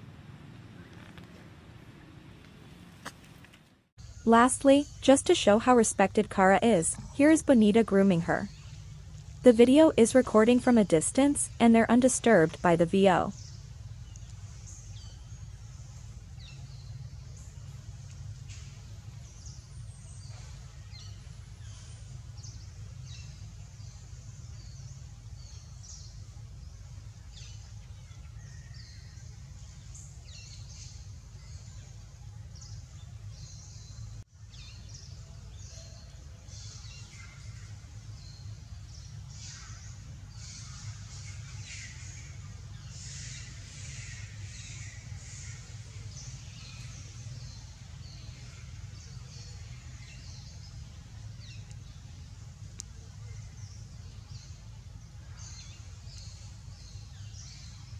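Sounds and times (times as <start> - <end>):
steady low rumble: 0.0 - 3.0, 4.0 - 57.9
birds chirping: 4.0 - 57.9.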